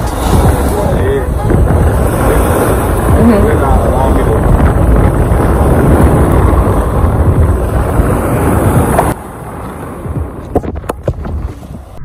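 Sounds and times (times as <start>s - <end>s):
small waves breaking: 0.0s - 12.0s
wind blowing across microphone: 0.0s - 12.0s.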